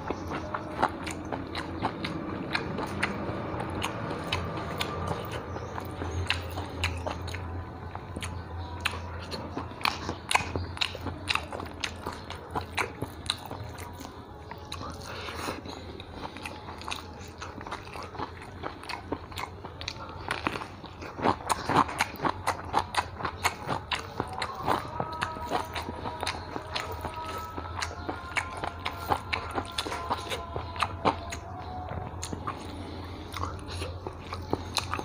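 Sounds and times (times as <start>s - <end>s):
low steady hum: 0.0s - 35.0s
person chewing crunchy food: 0.0s - 35.0s.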